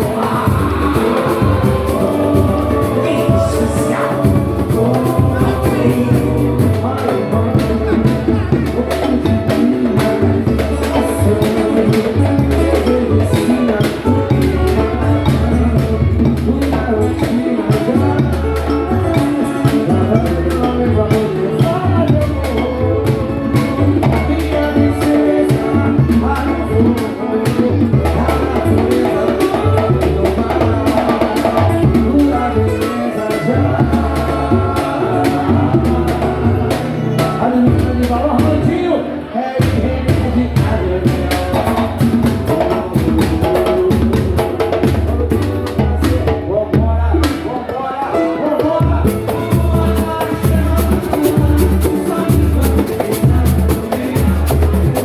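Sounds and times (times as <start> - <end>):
bass line: 0.0 - 47.7, 48.7 - 55.0
busy percussion: 0.0 - 55.0
voices singing: 0.0 - 55.0.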